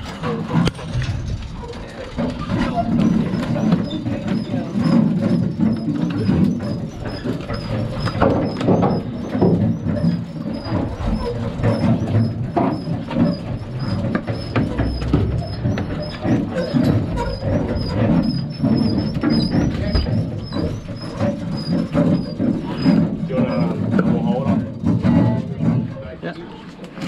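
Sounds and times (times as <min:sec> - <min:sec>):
knocks and clatter: 0:00.0 - 0:27.0.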